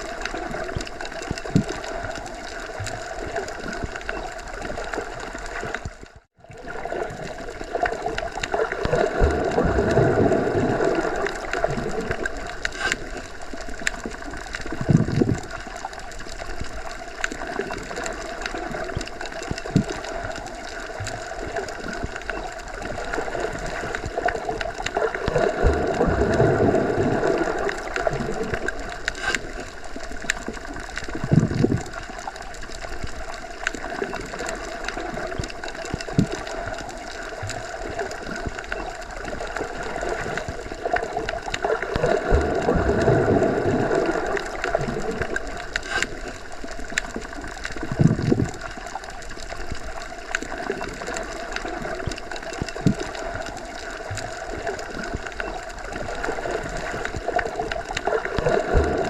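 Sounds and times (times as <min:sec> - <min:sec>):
muffled underwater water rush: 0:00.0 - 0:59.0.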